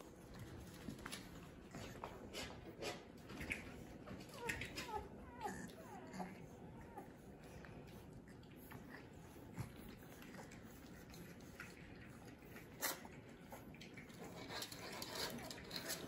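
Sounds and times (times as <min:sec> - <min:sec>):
puppies playing with toys: 0:00.0 - 0:16.0.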